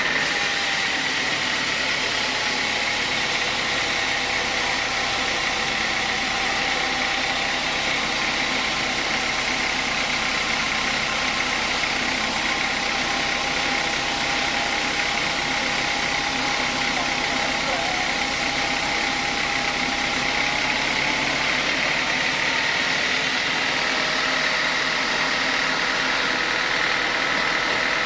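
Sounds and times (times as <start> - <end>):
saw machine droning: 0.0 - 28.0.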